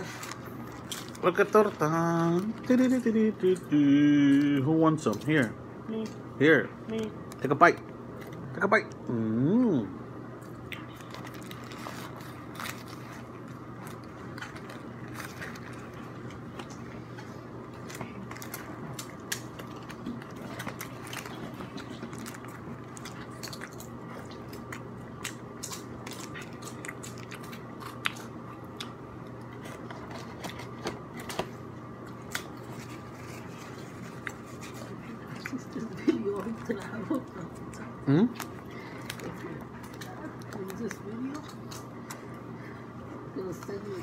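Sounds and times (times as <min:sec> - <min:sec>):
biting and chewing: 0:00.0 - 0:03.7, 0:10.4 - 0:43.8
faint steady hum: 0:00.0 - 0:44.0.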